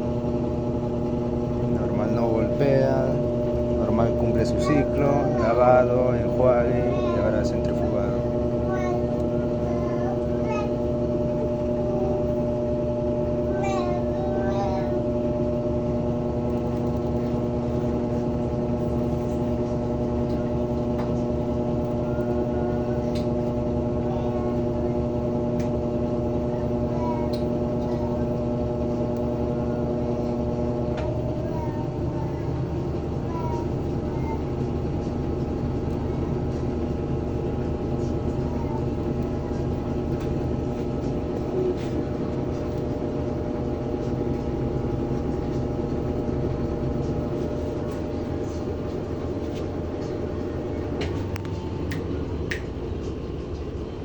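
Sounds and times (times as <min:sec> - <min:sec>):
washing machine motor humming: 0:00.0 - 0:54.0.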